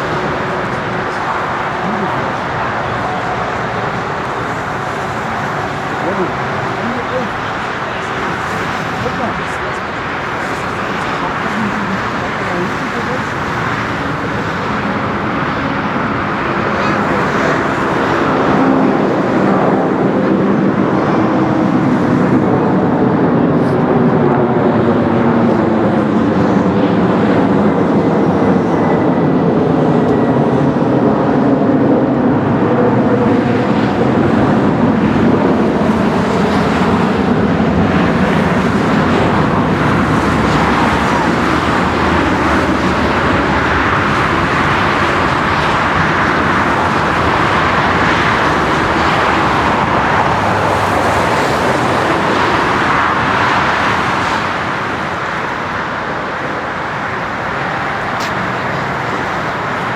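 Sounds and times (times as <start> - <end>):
jet aircraft engines roaring: 0.0 - 59.9.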